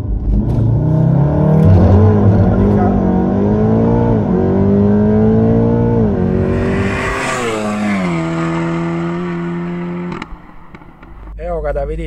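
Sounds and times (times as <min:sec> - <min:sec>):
car engine at full throttle: 0:00.0 - 0:11.4
car passing at speed: 0:00.9 - 0:11.3.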